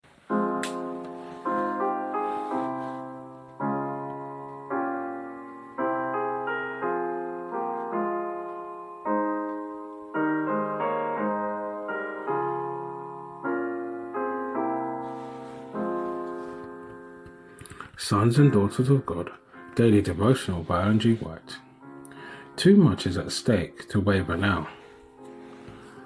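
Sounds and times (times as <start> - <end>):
gentle piano chords: 0.1 - 26.0.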